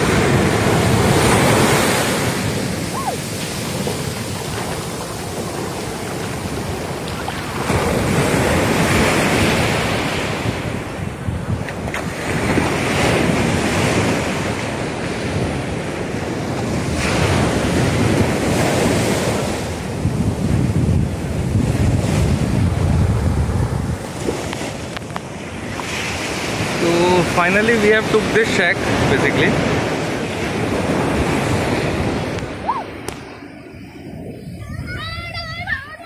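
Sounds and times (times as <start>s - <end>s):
surf breaking on sand: 0.0s - 36.0s
wind buffeting microphone: 0.0s - 36.0s.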